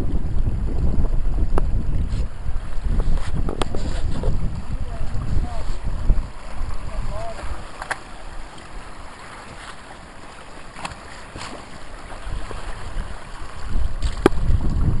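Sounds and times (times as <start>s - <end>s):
wind buffeting microphone: 0.0s - 9.6s, 11.7s - 15.0s.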